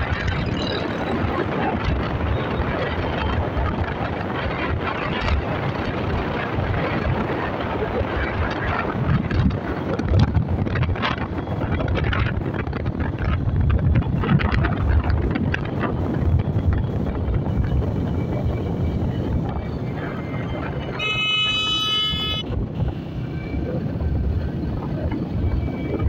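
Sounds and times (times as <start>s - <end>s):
motorcycle running and road noise: 0.0s - 26.0s
wind buffeting microphone: 0.0s - 26.0s.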